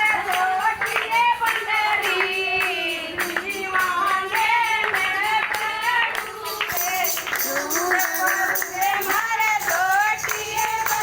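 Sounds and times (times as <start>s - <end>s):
hand-claps: 0.0s - 11.0s
percussion: 0.0s - 11.0s
person singing devotional song: 0.0s - 11.0s.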